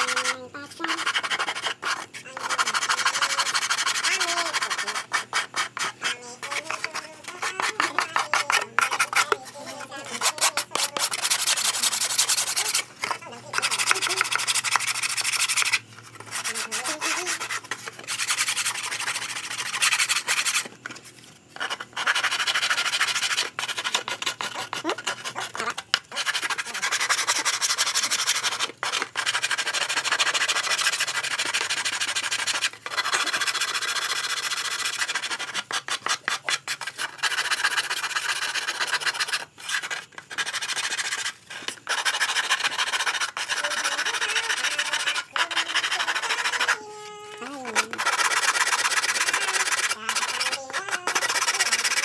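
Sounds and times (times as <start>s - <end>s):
sandpaper rubbing on wood: 0.0s - 21.0s, 21.6s - 52.0s.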